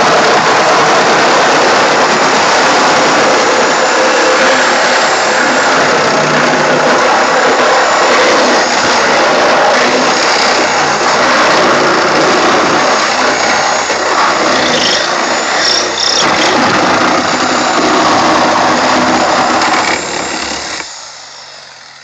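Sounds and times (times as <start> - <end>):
reciprocating saw cutting sheet metal: 0.0 - 22.0.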